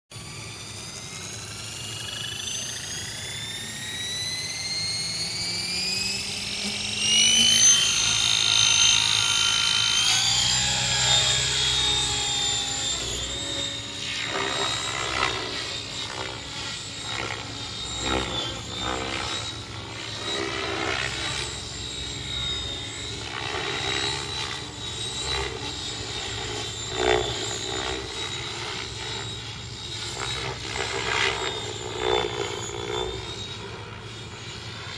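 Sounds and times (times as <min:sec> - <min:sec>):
electric helicopter whine: 0:00.1 - 0:34.9
rotor blade whoosh: 0:00.1 - 0:34.9.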